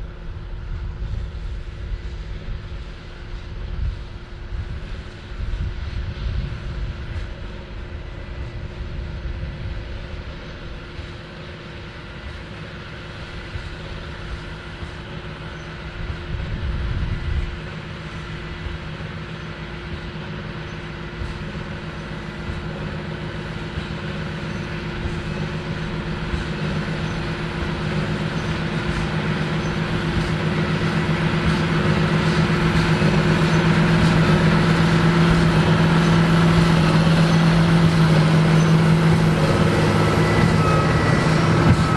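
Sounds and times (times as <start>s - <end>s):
tractor engine working: 0.0s - 41.9s.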